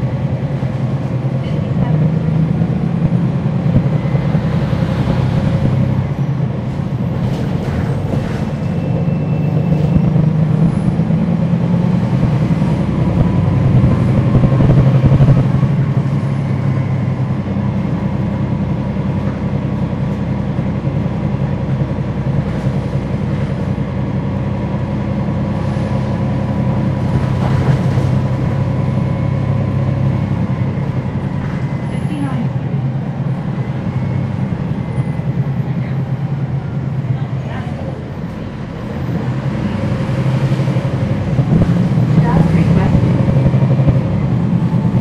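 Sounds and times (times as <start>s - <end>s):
bus diesel engine drone: 0.0s - 45.0s.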